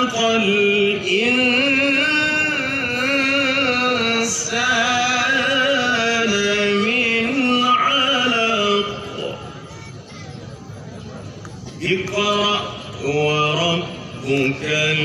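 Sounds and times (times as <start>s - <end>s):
man reciting melodically over loudspeakers: 0.0s - 10.2s, 11.7s - 15.0s.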